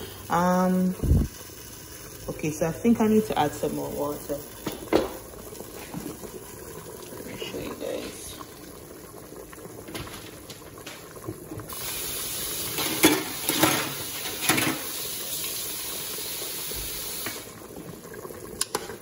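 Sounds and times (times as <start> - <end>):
beans boiling in water: 0.0 - 19.0.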